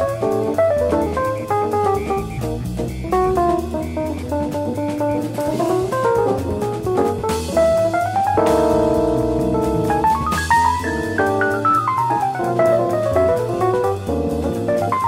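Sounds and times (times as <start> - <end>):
drum kit with cymbals: 0.0 - 15.0
jazz guitar run: 0.0 - 15.0
walking bass line: 0.0 - 15.0.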